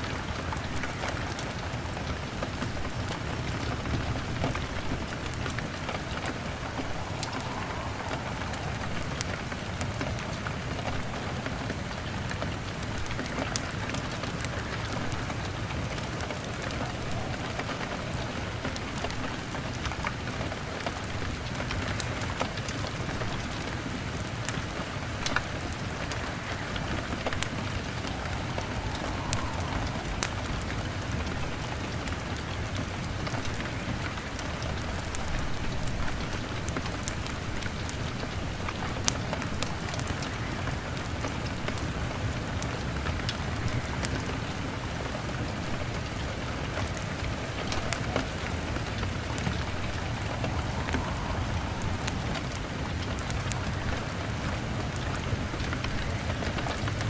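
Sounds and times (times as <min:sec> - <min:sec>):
rain on a window: 0:00.0 - 0:57.0
wood fire crackling: 0:00.0 - 0:57.0.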